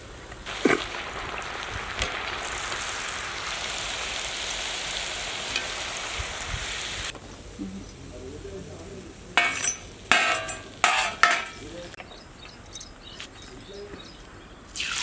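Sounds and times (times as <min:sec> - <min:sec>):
dough sizzling in hot oil: 0:00.0 - 0:11.9, 0:14.7 - 0:15.0.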